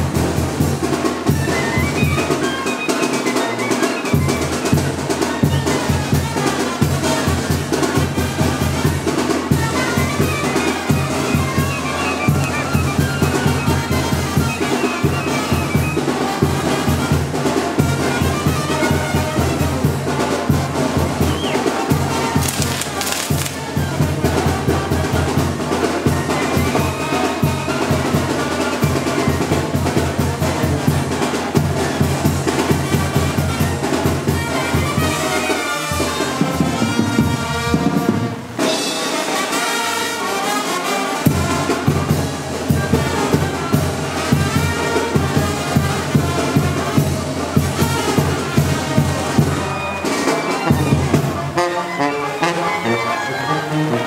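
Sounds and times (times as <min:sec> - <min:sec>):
steady drum beat: 0:00.0 - 0:01.4, 0:04.1 - 0:35.3, 0:35.9 - 0:51.6
trumpets and trombones melody: 0:00.0 - 0:54.0.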